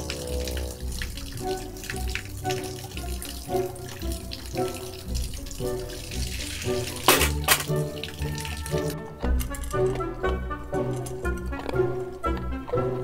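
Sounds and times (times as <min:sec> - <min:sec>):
water trickling onto stone: 0:00.0 - 0:12.8
gentle background music: 0:00.0 - 0:13.0.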